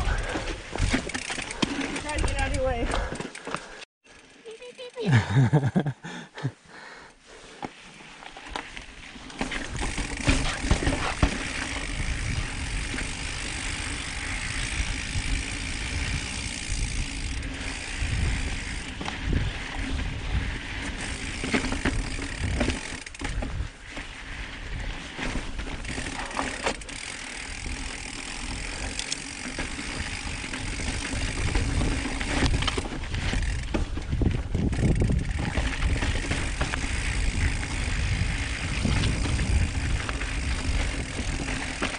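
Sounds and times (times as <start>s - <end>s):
bike chain rattling over bumps: 0.0s - 5.8s, 8.3s - 24.0s, 24.7s - 41.9s.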